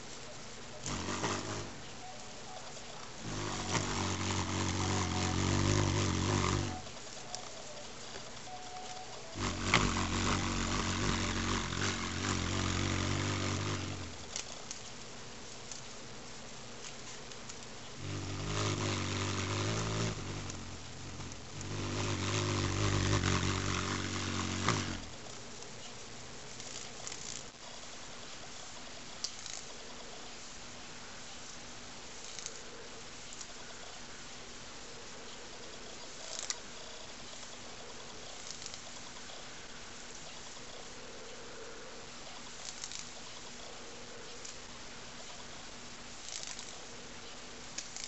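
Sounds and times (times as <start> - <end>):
hummingbird wings humming: 0.0 - 48.0.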